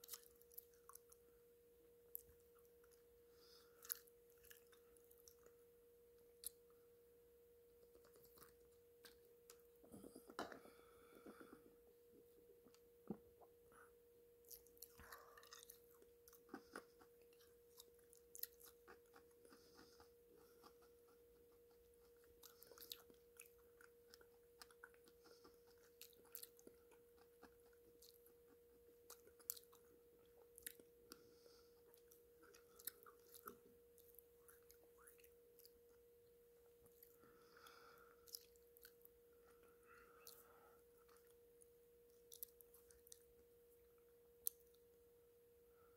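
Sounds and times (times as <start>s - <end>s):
faint steady tone: 0.0s - 45.9s.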